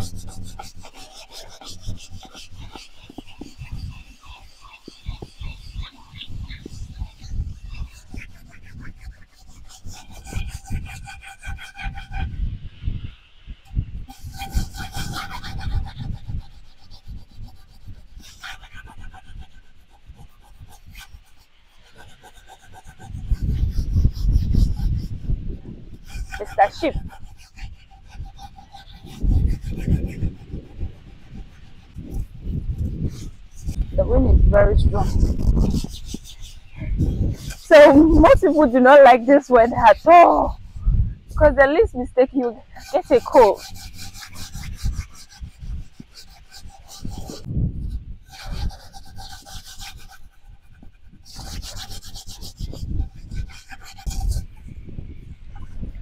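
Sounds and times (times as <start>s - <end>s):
sand scrubbing a metal pot: 0.0s - 12.3s, 13.9s - 40.7s, 41.3s - 54.8s
wind on microphone: 0.0s - 56.0s.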